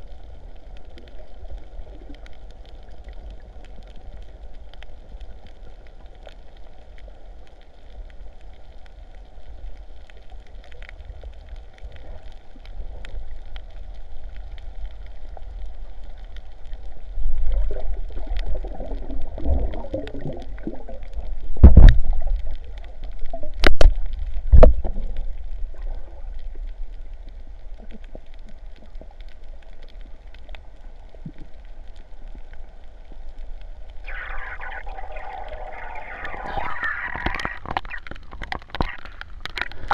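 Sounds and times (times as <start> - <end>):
muffled water sloshing and gurgling: 0.0 - 39.9.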